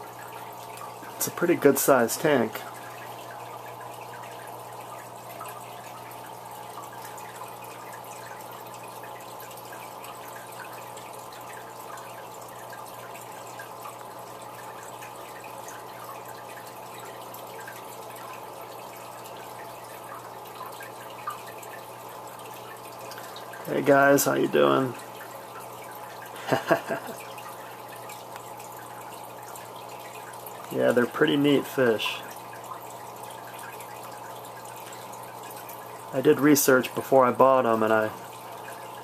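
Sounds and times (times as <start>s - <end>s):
water trickling into aquarium: 0.0s - 39.0s.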